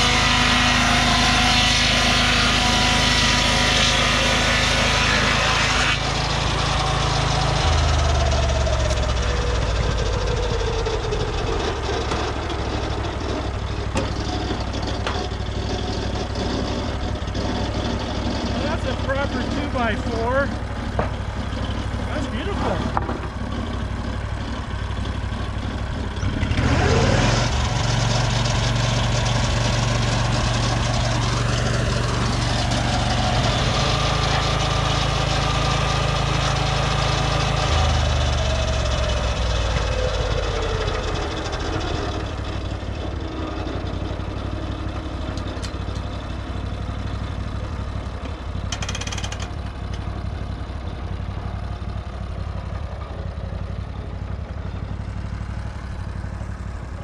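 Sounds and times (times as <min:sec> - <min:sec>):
sawmill engine idling and revving: 0:00.0 - 0:57.0.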